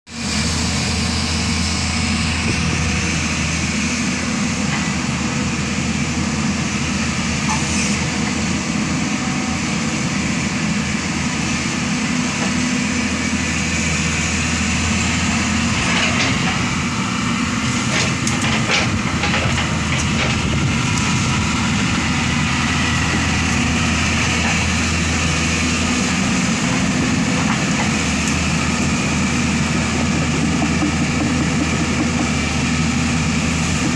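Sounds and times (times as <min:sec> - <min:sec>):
diesel engine humming: 0:00.1 - 0:33.9.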